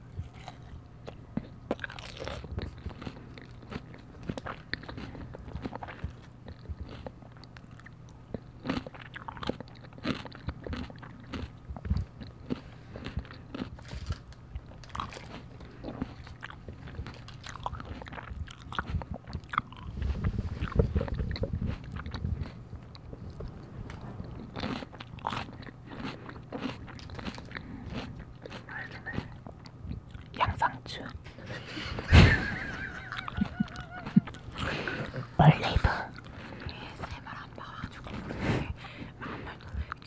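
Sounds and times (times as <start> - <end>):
chewing and crunching salad: 0.0 - 40.0.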